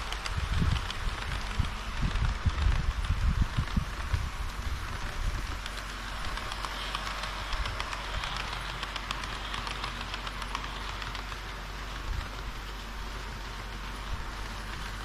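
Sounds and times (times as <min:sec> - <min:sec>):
model train wheels clicking on track: 0:00.0 - 0:15.0.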